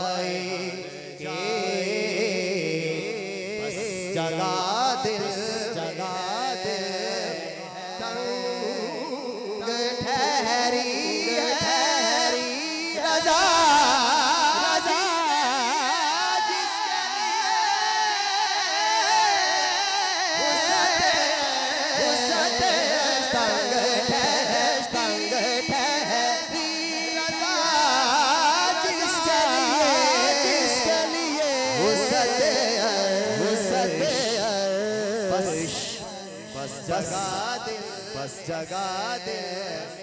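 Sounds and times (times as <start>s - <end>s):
man singing through a microphone: 0.0s - 40.0s.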